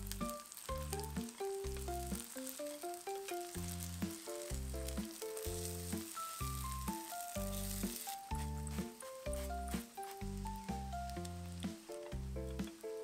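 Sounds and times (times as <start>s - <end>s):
food sizzling in frying pan: 0.0s - 13.0s
light background music: 0.0s - 13.0s.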